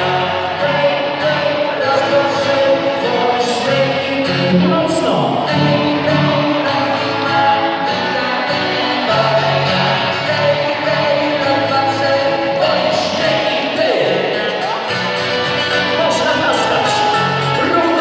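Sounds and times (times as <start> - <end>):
guitars strumming: 0.0 - 18.0
person singing: 0.0 - 18.0.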